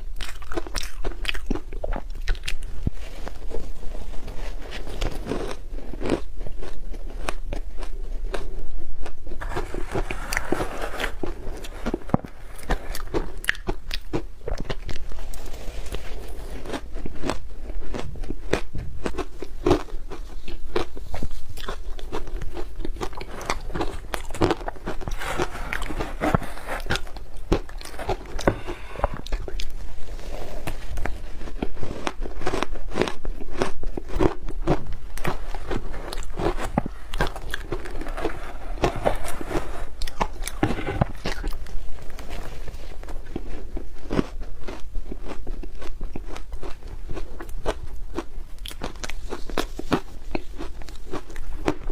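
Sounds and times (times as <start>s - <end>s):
ice crunching between teeth: 4.8s - 51.9s.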